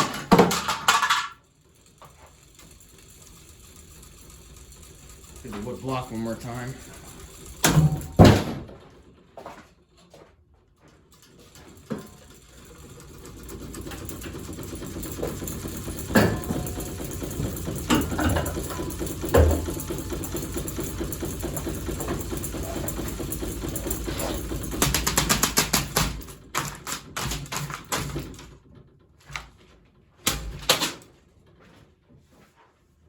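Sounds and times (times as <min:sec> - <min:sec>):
ceiling fan rattling hum: 0:00.0 - 0:33.0.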